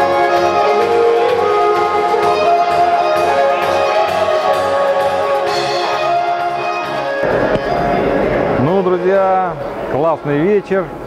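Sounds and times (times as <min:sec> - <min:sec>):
electric violin melody: 0:00.0 - 0:09.3.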